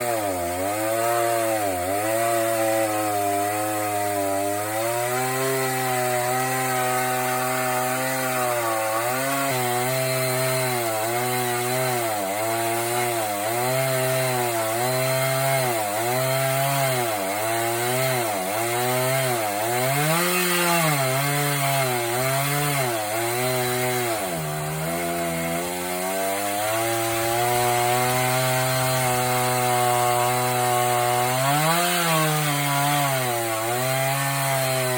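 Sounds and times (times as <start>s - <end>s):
chainsaw cutting through log: 0.0s - 34.9s.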